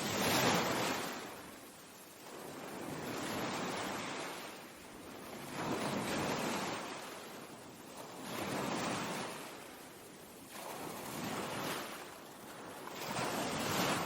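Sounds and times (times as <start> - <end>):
ocean waves washing in: 0.0 - 14.0.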